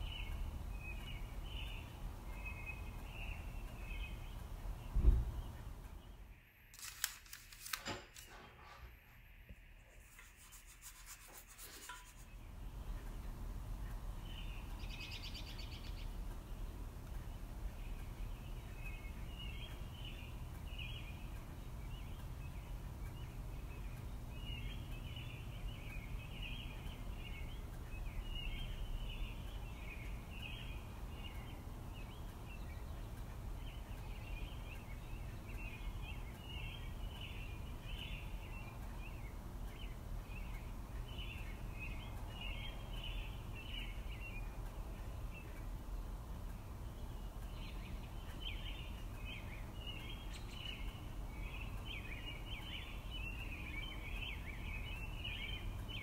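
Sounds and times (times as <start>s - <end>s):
faint bird chirping: 0.0s - 6.7s, 9.4s - 56.0s.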